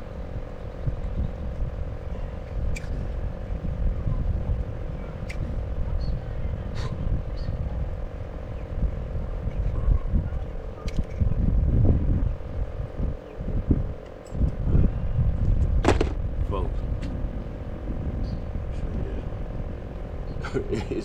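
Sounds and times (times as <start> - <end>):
constant drone: 0.0 - 21.0
low rumble: 0.0 - 21.0.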